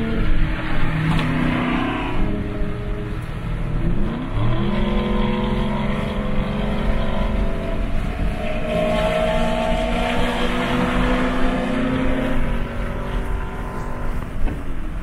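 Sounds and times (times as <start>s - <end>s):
higher engine note: 0.0s - 14.3s
car engine accelerating: 0.0s - 14.6s.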